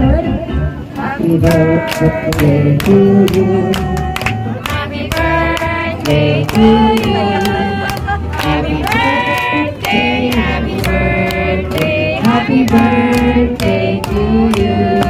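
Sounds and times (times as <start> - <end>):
song with singing and beat: 0.3 - 15.0
hands clapping: 1.0 - 15.0.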